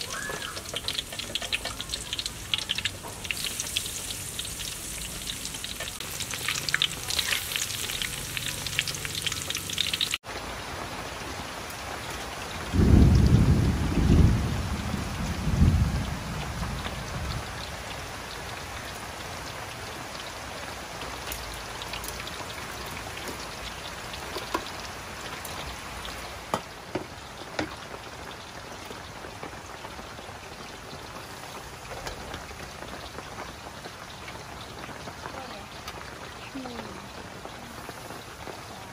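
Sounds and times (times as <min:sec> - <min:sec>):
food deep-frying in oil: 0:00.0 - 0:38.9.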